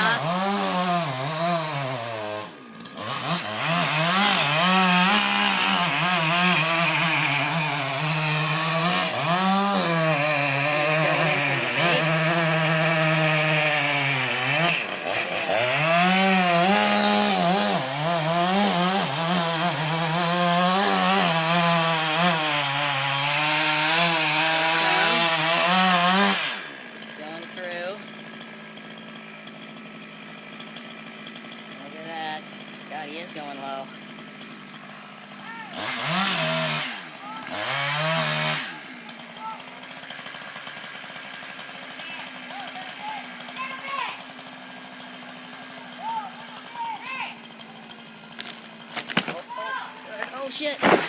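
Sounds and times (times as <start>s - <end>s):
chainsaw cutting wood: 0.0s - 51.0s.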